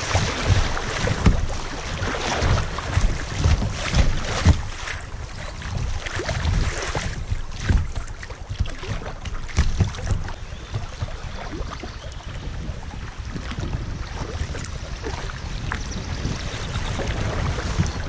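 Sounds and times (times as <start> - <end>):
water splashing against kayak: 0.0 - 18.0
wind buffeting microphone: 0.0 - 18.0.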